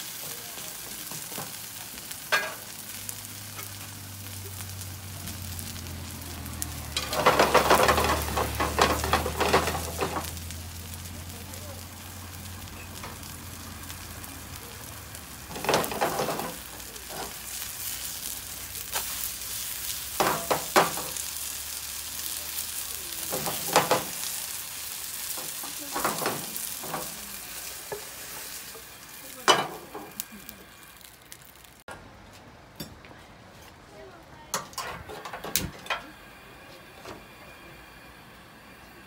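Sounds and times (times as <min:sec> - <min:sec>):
pancake sizzling in oil: 0:00.0 - 0:31.9.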